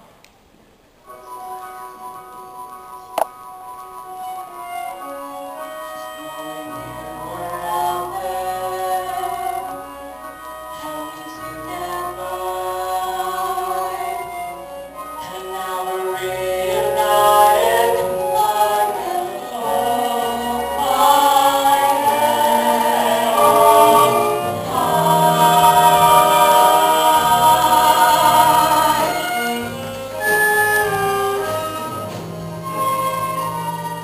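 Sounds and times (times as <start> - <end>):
ensemble singing with accompaniment: 5.3 - 34.0.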